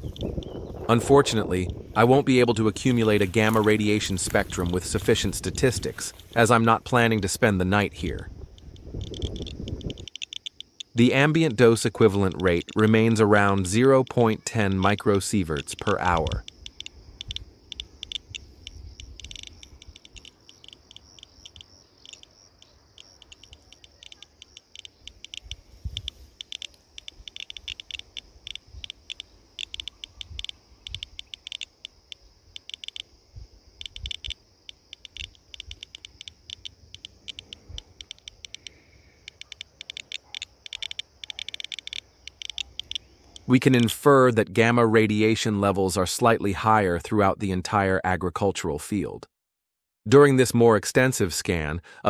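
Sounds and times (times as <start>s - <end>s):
radiation detector clicking: 0.0s - 6.6s, 7.2s - 33.2s, 33.8s - 44.0s.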